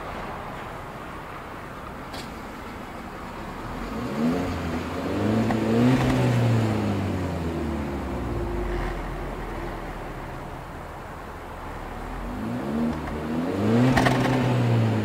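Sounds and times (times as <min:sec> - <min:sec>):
car engine revving: 0:02.6 - 0:15.0.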